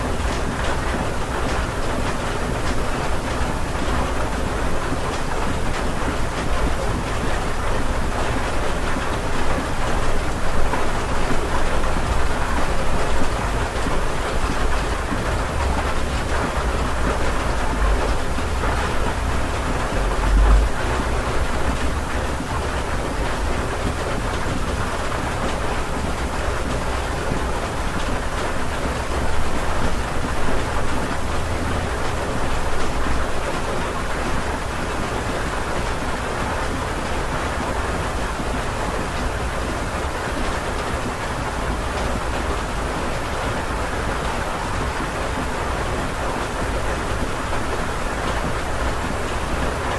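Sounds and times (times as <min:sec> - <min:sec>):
heavy rain patter: 0:00.0 - 0:49.9.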